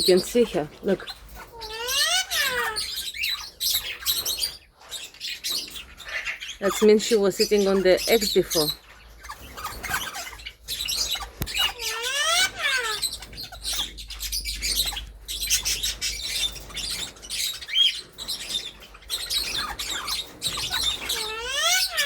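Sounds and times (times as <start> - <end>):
parrots chirping and squawking: 0.0 - 22.0.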